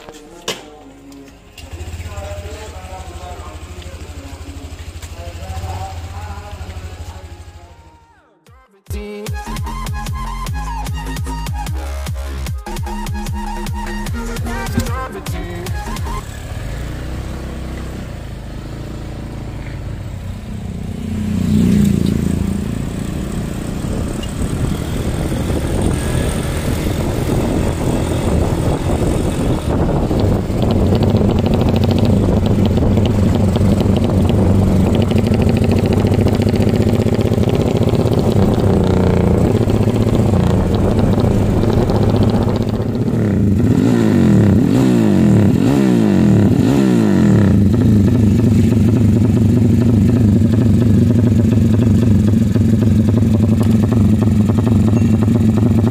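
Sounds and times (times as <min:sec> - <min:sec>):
motorcycle engine revving: 0:01.4 - 0:07.8, 0:11.1 - 0:55.9.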